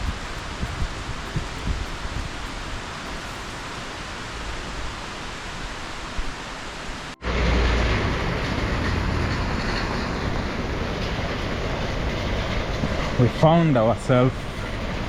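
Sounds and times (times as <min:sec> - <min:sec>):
deep rushing noise: 0:00.0 - 0:06.4, 0:07.1 - 0:13.2
heavy rain hissing: 0:00.0 - 0:15.0.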